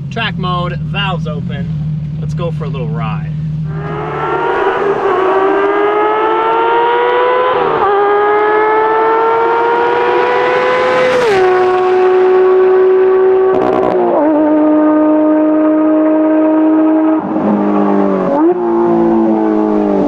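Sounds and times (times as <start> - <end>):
sports car engine wailing: 0.0 - 20.0.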